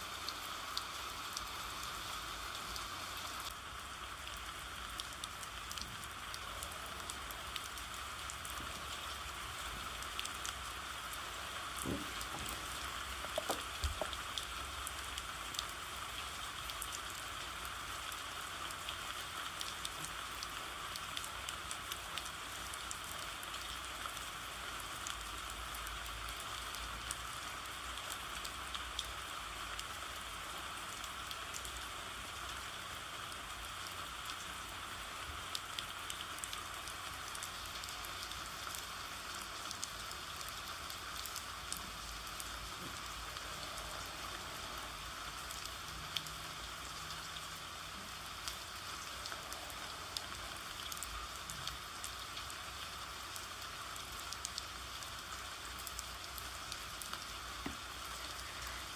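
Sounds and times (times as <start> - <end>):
steady rain hiss: 0.0 - 58.9
raindrops ticking: 0.2 - 58.9.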